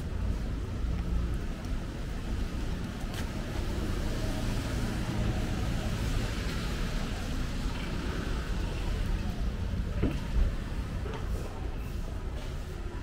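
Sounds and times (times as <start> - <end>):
rain hissing on wet street: 0.0 - 13.0
vehicle rumbling on wet road: 0.0 - 13.0.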